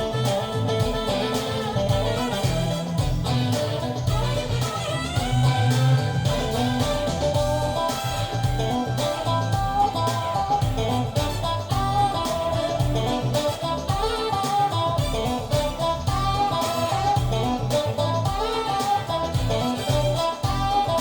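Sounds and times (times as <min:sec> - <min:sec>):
music with steady beat and bass: 0:00.0 - 0:21.0.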